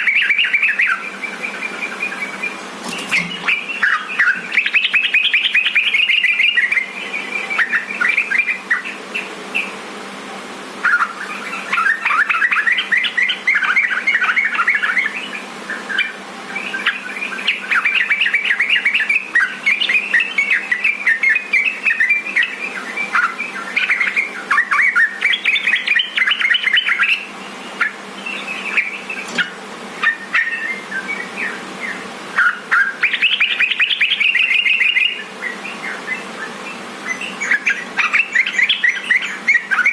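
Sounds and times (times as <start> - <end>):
bulbul singing: 0.0 - 10.0, 10.8 - 39.9.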